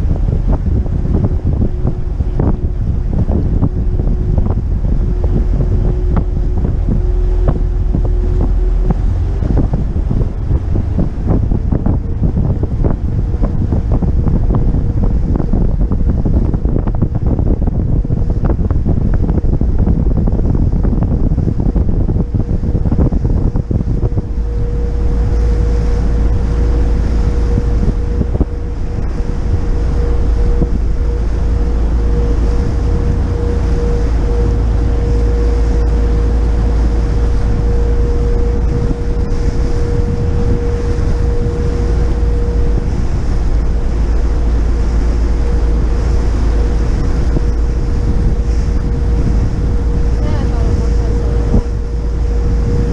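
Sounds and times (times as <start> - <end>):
steady hum: 0.0 - 52.9
wind buffeting microphone: 0.0 - 52.9.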